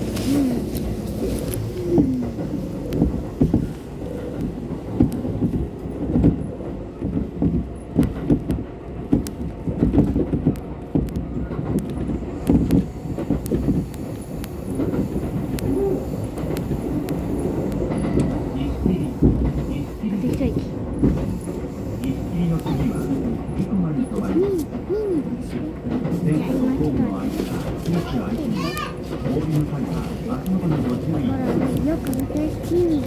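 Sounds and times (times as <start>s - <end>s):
train rumbling: 0.0s - 33.0s
wheels knocking on track: 0.0s - 33.0s.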